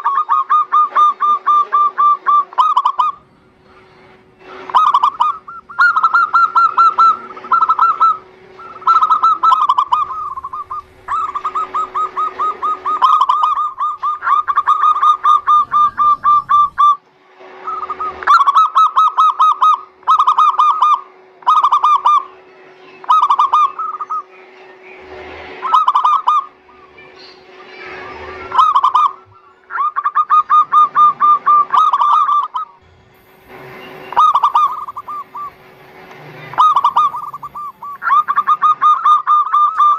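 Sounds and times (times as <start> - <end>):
dove cooing: 0.0 - 17.0, 17.6 - 22.3, 23.0 - 24.3, 25.6 - 26.9, 27.7 - 32.8, 34.1 - 35.6, 36.4 - 39.9.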